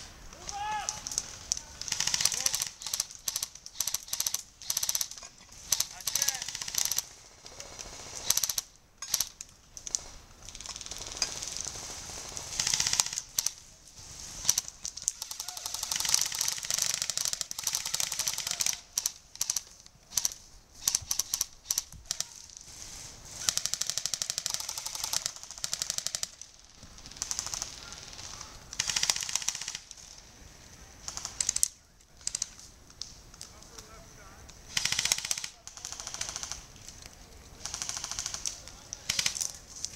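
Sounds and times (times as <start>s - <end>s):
airsoft guns firing: 0.4s - 13.6s, 14.4s - 22.4s, 23.4s - 30.0s, 31.0s - 32.6s, 34.7s - 36.7s, 37.6s - 39.6s.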